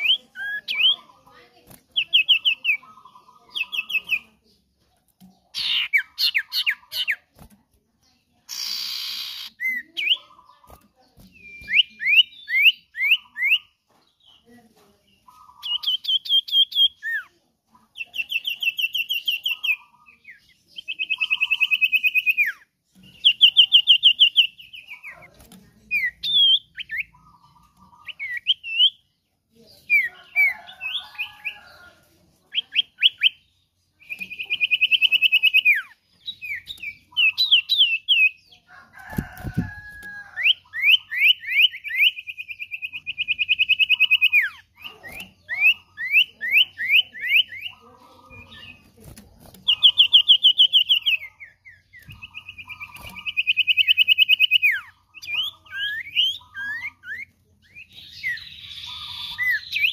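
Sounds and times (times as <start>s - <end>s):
bird singing rapid trills: 0.0s - 13.8s, 18.0s - 59.9s.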